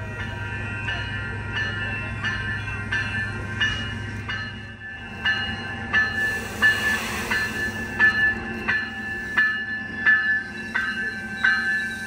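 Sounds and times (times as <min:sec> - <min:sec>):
bell ringing: 0:00.0 - 0:12.0
train running: 0:00.0 - 0:12.0.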